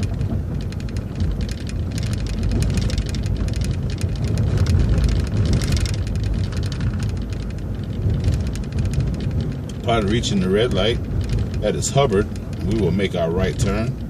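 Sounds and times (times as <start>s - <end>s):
bus engine and road rumble: 0.0s - 14.0s
rattling and ticking: 0.0s - 14.0s.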